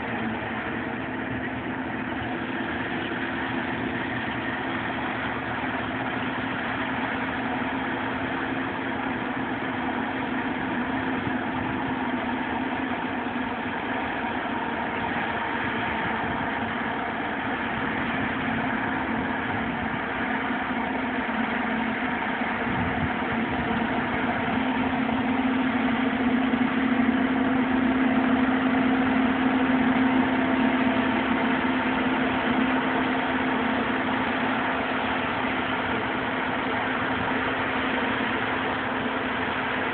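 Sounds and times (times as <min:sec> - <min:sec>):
combine harvester engine drone: 0:00.0 - 0:39.9
tractor engine running: 0:00.0 - 0:39.9.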